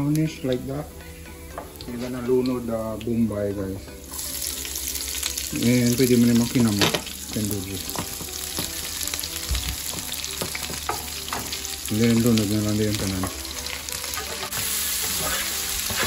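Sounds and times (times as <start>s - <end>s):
onions sizzling in a pan: 0.0s - 16.0s.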